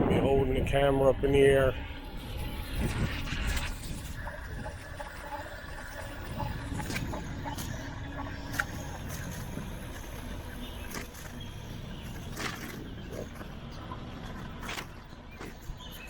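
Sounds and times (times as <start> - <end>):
tyres on road: 0.0 - 16.0
wind on microphone: 0.0 - 16.0.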